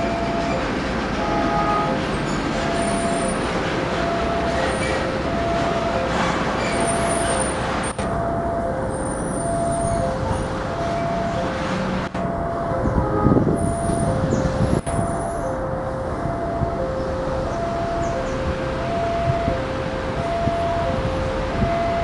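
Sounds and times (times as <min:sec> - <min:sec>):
diesel locomotive rumbling: 0:00.0 - 0:22.0
two-tone warning alarm: 0:00.0 - 0:22.0.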